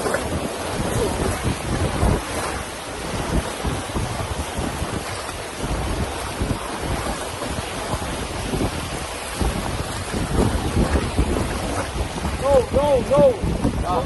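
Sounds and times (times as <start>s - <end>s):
whitewater rushing: 0.0s - 14.0s
wind buffeting microphone: 0.0s - 14.0s.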